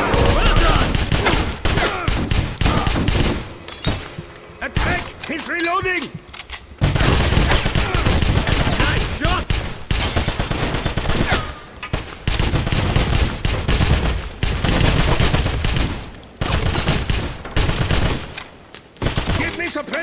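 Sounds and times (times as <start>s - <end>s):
video game automatic gunfire: 0.0s - 4.2s, 6.8s - 19.7s.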